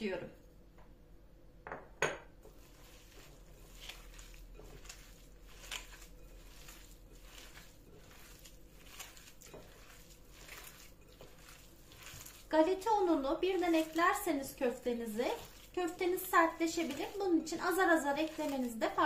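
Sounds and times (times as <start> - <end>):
wet squishing of kneaded meat: 2.5 - 19.0.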